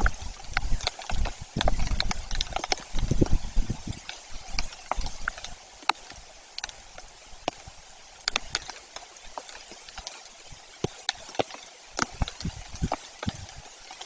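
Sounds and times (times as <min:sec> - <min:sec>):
rain hiss: 0:00.0 - 0:14.0
raindrops tapping: 0:00.0 - 0:14.0.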